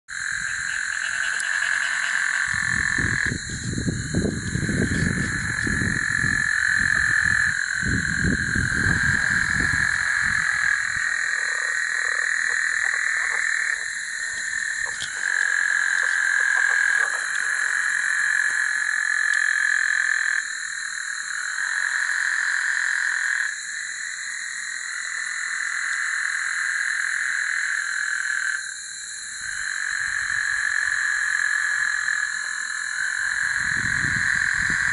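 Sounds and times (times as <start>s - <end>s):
frogs trilling: 0.1s - 34.9s.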